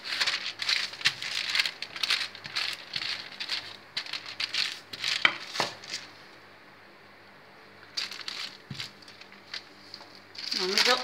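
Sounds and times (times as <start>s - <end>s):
baking paper crinkling under rolling pin: 0.0s - 6.2s, 7.8s - 11.0s.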